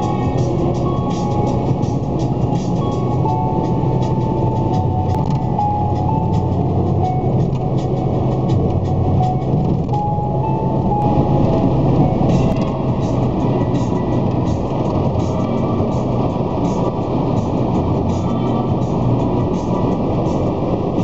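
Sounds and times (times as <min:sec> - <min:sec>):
simple music melody: 0:00.0 - 0:17.6
car road and engine noise: 0:00.0 - 0:21.0.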